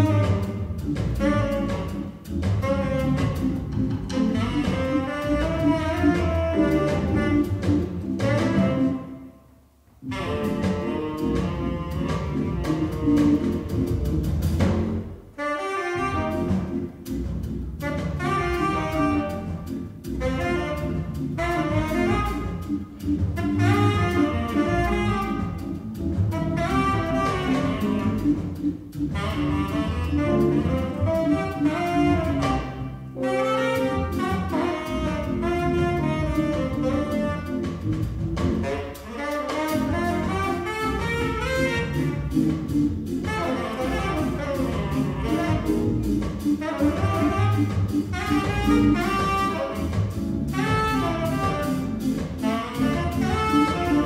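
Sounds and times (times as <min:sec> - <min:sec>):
jazz quartet playing: 0:00.0 - 0:54.0
saxophone melody: 0:00.0 - 0:54.0.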